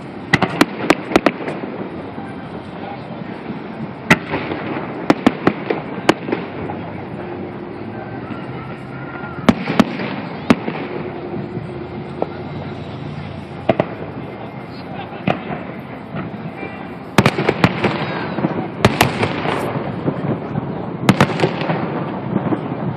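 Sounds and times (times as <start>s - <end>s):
crowd voices: 0.0s - 22.9s
fireworks bursting: 0.0s - 22.9s.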